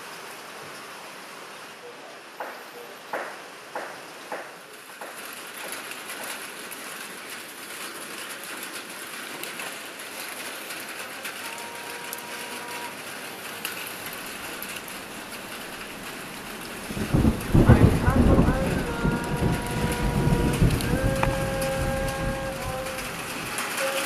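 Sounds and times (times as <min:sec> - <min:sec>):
wood fire crackling: 0:03.2 - 0:24.0.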